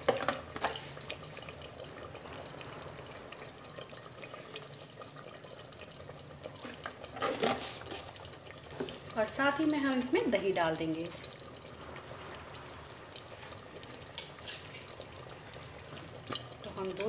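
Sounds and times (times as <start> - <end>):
curry bubbling and sizzling: 0.0 - 17.0.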